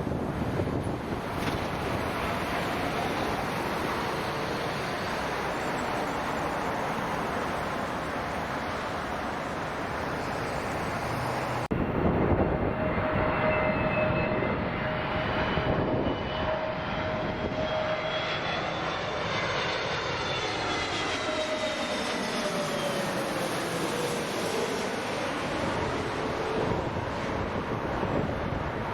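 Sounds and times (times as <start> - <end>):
jet engines roaring and whining: 0.0 - 28.9.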